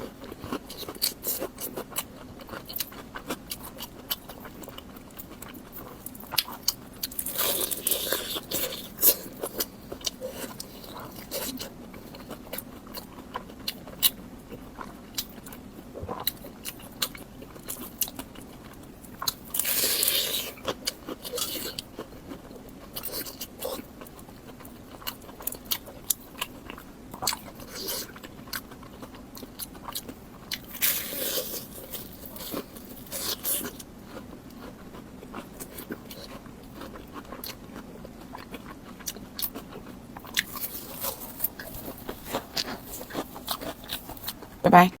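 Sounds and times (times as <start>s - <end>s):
crunchy chewing and biting: 0.0s - 44.6s.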